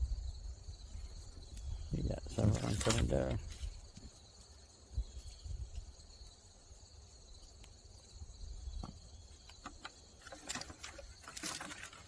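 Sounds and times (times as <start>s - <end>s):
crickets chirring: 0.0s - 12.0s
rustles and scrapes in soil: 0.6s - 12.0s.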